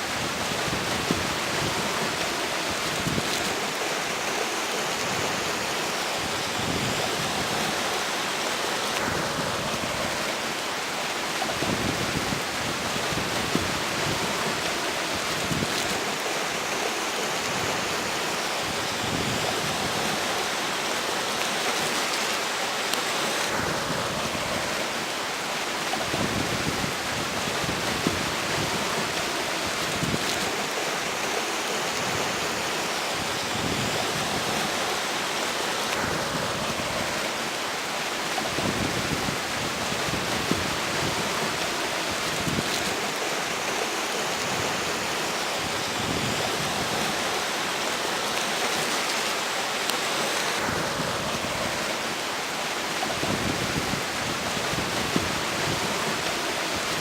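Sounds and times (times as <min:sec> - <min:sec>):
river water flowing: 0:00.0 - 0:57.0
wind gusts: 0:00.0 - 0:57.0.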